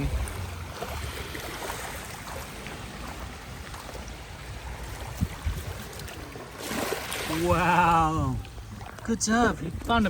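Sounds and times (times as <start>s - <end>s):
beach surf: 0.0s - 10.0s
wind rumble on microphone: 0.0s - 10.0s.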